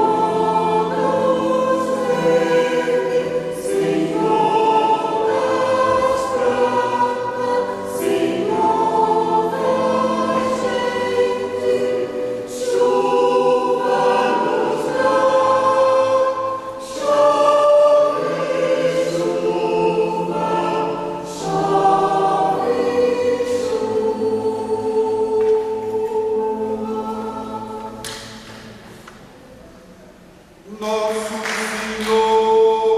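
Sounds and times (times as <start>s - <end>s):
mixed choir singing: 0.0s - 28.8s, 30.7s - 32.9s
piano accompaniment: 0.0s - 29.8s.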